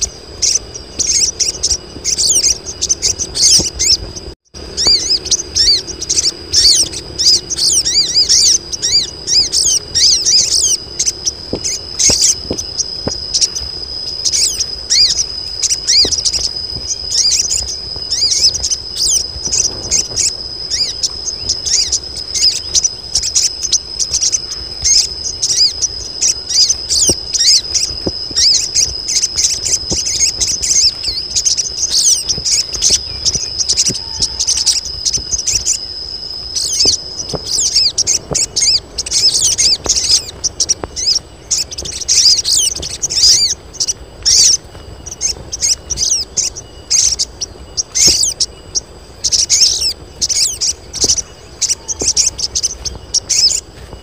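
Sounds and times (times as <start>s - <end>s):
birds chirping high thin calls: 0.0s - 54.0s.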